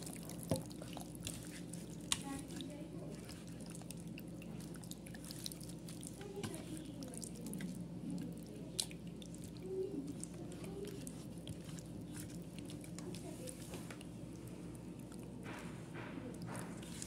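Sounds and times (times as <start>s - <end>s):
hands kneading wet marinade: 0.0s - 17.0s.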